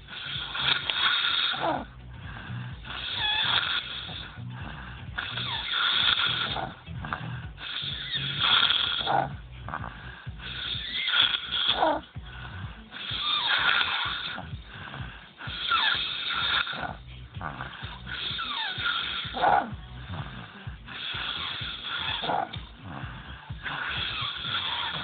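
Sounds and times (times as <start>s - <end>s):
snoring with rattling buzz: 0.0s - 25.0s.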